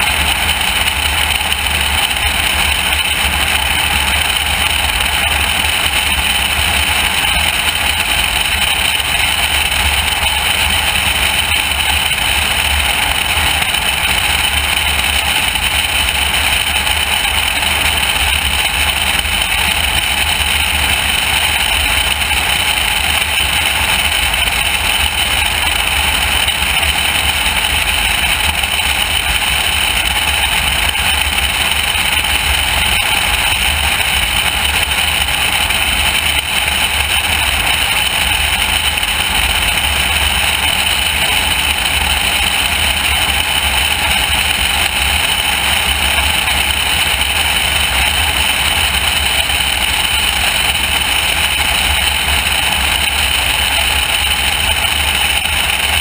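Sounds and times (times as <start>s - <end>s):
aircraft engine and propeller drone: 0.0s - 56.0s.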